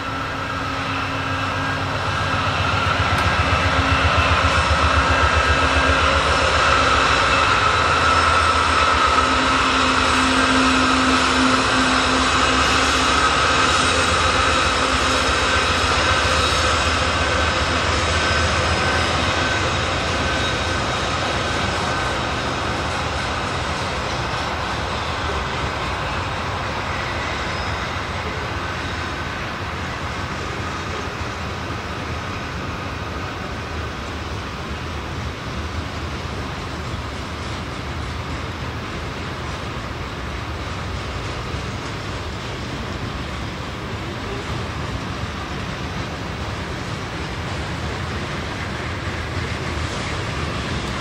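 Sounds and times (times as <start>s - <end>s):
diesel locomotive engine rumbling: 0.0s - 51.0s
freight cars rolling on rails: 0.0s - 51.0s.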